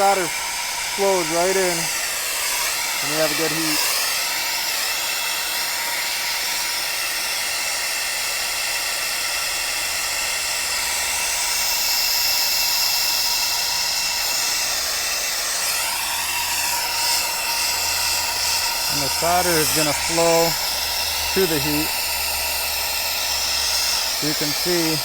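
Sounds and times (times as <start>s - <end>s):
torch flame hissing: 0.0s - 25.0s.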